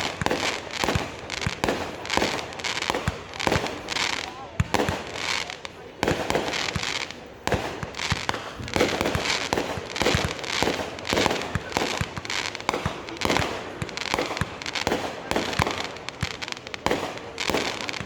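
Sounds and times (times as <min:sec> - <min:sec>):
fireworks banging and crackling: 0:00.0 - 0:18.0.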